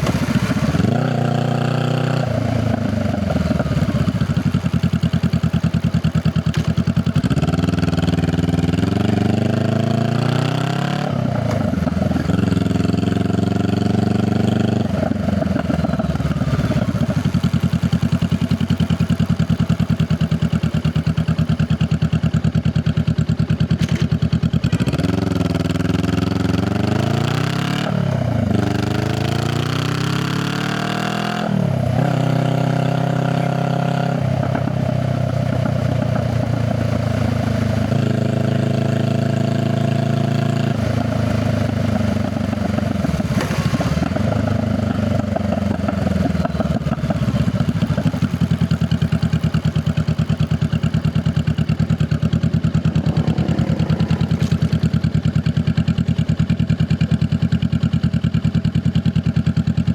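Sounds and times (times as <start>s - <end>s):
motorcycle engine accelerating: 0.0s - 59.9s
motorcycle engine idling: 0.0s - 59.9s.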